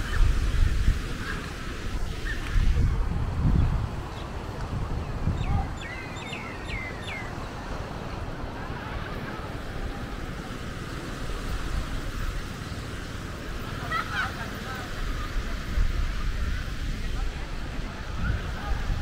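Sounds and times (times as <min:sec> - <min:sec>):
wind rumbling on microphone: 0:00.0 - 0:14.0, 0:14.6 - 0:19.0
small waves on a sandy beach: 0:00.0 - 0:19.0.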